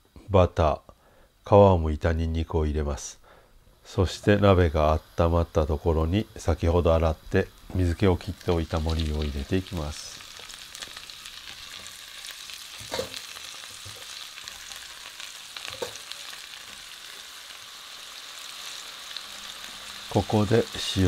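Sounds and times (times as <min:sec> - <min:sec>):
mushrooms sizzling in oil: 0:03.8 - 0:21.0.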